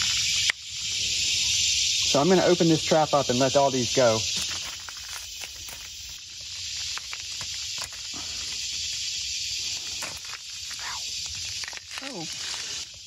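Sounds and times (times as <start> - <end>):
insect chorus hiss: 0.0 - 13.0.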